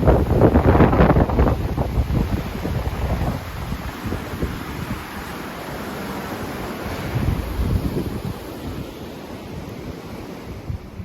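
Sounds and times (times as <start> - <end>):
rushing creek water: 0.0 - 11.0
wind buffeting microphone: 0.0 - 11.0.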